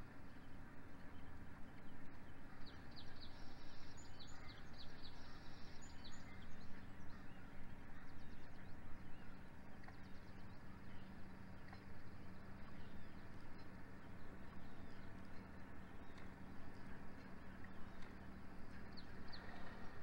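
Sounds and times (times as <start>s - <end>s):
low background hum and hiss: 0.0s - 20.0s
small birds chirping faintly: 0.0s - 20.0s.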